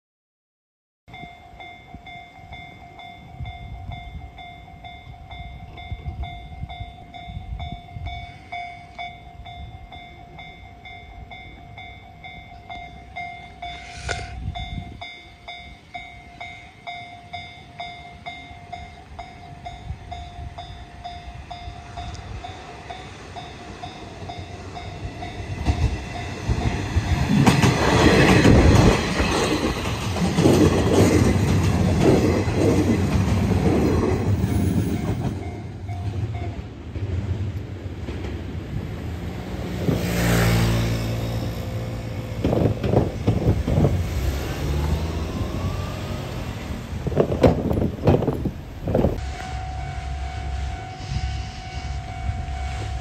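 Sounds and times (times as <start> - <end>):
diesel train passing: 1.1 - 53.0
train wheels on rails: 1.1 - 53.0.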